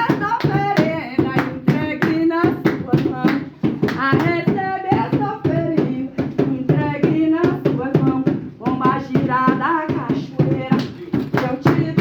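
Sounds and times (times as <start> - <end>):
hand claps beat: 0.0 - 12.0.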